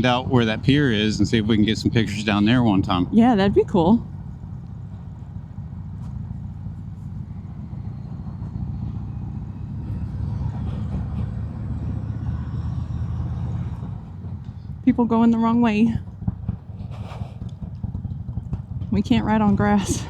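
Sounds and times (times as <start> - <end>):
motorcycle engine rumbling: 0.0 - 20.0.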